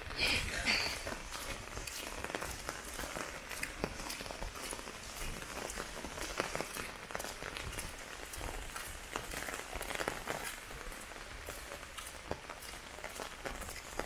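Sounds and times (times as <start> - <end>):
heavy rain falling: 0.0 - 14.0
sharp taps of raindrops: 0.8 - 14.0.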